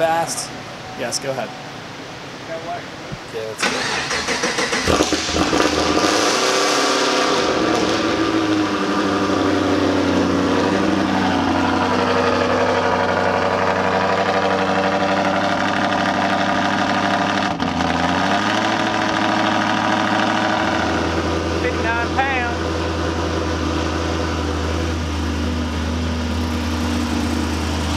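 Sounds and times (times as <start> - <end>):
car engine starting and idling: 2.3 - 27.9.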